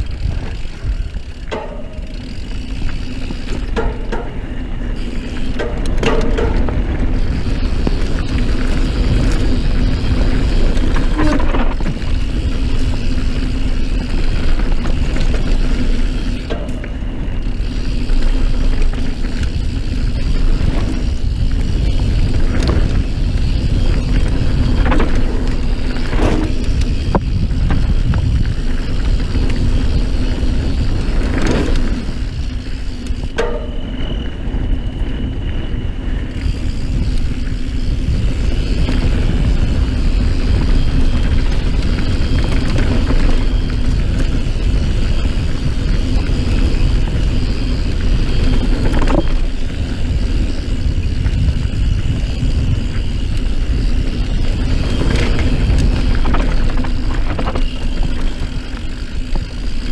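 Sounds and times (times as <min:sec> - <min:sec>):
bike knocking on bumps: 0:00.0 - 0:34.9, 0:36.4 - 0:59.9
mountain bike rumbling and rattling: 0:00.0 - 0:59.9
wind on microphone: 0:00.0 - 0:59.9.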